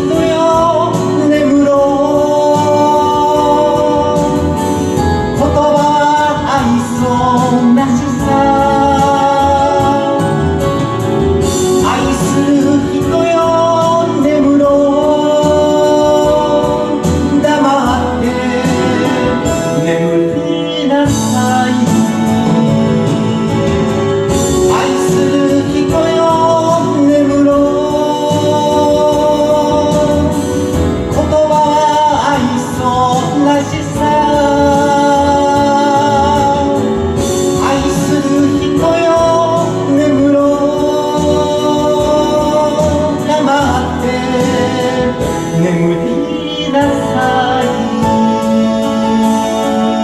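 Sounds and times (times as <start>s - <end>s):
instrumental accompaniment: 0.0s - 50.0s
man singing into a microphone: 0.0s - 50.0s.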